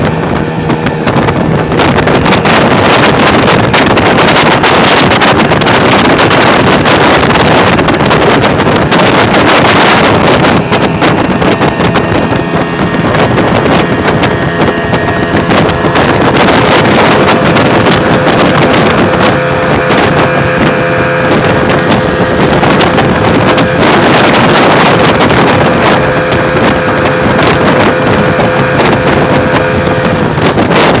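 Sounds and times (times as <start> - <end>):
motorboat engine whine: 0.0 - 31.0
wind buffeting on microphone: 0.0 - 31.0.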